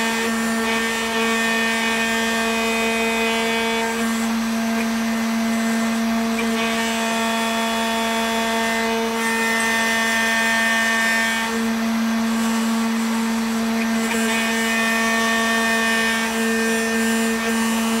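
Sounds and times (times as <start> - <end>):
engraving bit cutting wax: 0.0 - 18.0
spindle motor whining: 0.0 - 18.0.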